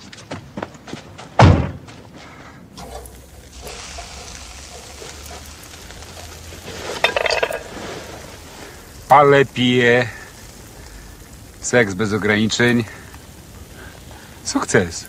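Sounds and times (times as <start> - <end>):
sausages sizzling on a grill: 2.7 - 15.0.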